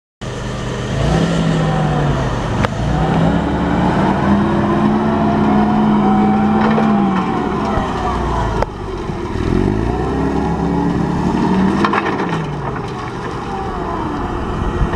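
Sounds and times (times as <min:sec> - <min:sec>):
forklift engine revving: 0:00.2 - 0:14.9.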